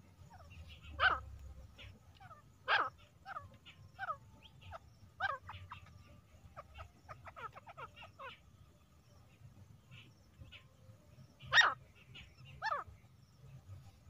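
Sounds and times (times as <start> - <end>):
francolin calling: 0.0 - 14.0.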